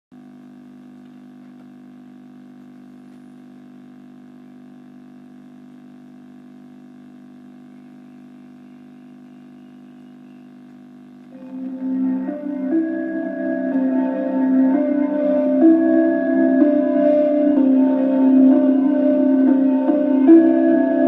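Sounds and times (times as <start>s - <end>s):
steady hum of low tones: 1.5s - 21.0s.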